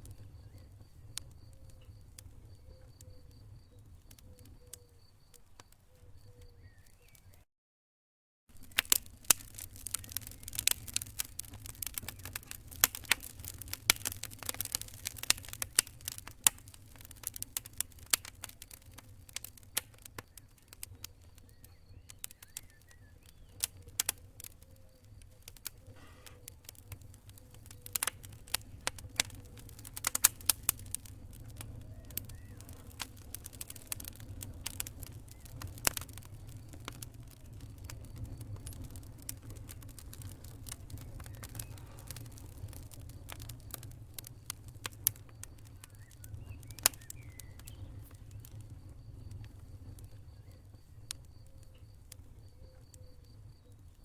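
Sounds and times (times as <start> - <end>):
campfire crackling and popping: 0.0 - 7.4, 8.5 - 54.0
low rumble of burning wood: 0.0 - 7.4, 8.5 - 54.0.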